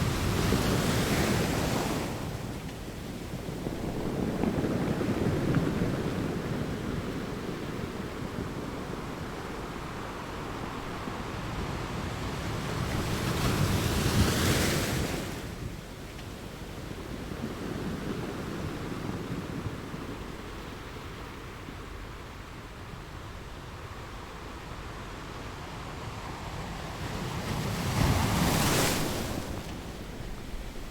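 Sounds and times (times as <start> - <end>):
sea waves breaking on shore: 0.0 - 30.9.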